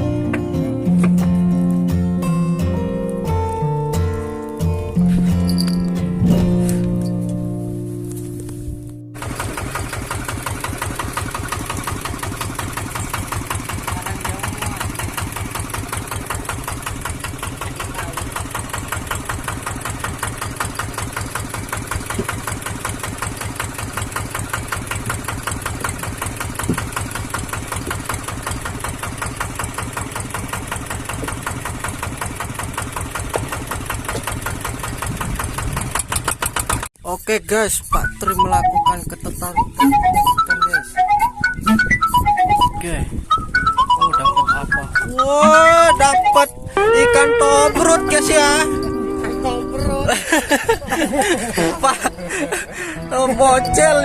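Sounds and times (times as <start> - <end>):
boat engine running: 2.7 - 36.9, 38.3 - 54.0.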